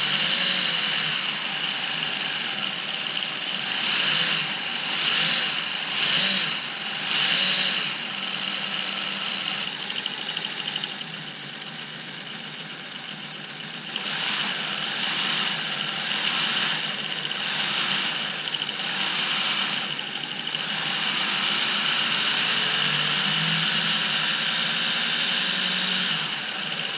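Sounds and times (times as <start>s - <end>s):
model engine motor whining: 0.0s - 26.9s.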